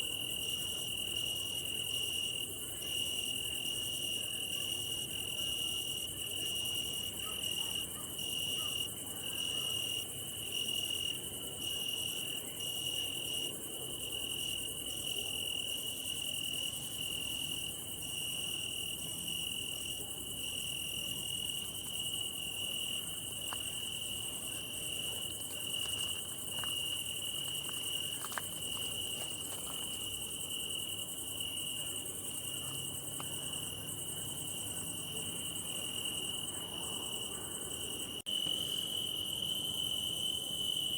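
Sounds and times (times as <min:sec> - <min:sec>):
cricket steady trill: 0:00.0 - 0:40.9.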